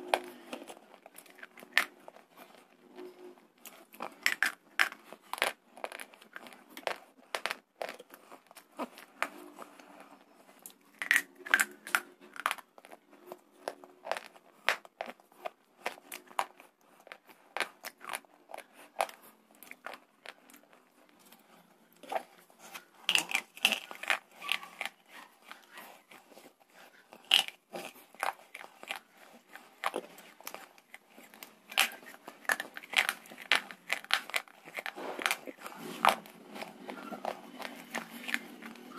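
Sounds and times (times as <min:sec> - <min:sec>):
quiet chewing: 0:00.0 - 0:38.9
slate crunching in mouth: 0:00.0 - 0:38.9.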